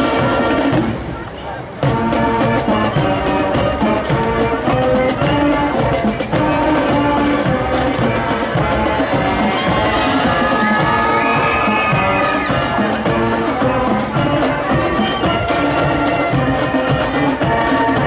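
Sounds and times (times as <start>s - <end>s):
sustained brass chords: 0.0s - 1.1s, 1.8s - 18.0s
drumline steady beat: 0.0s - 18.0s.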